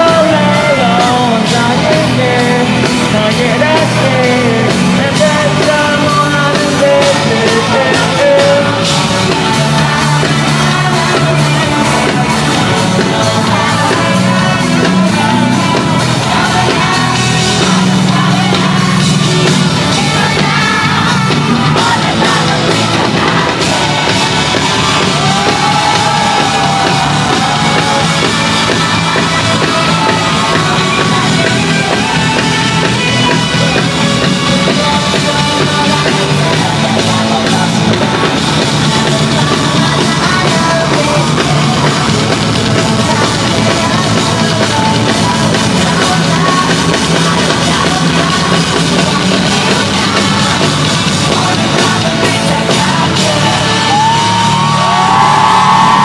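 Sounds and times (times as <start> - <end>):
fans yelling: 0.0 - 56.0
loud live music: 0.0 - 56.0.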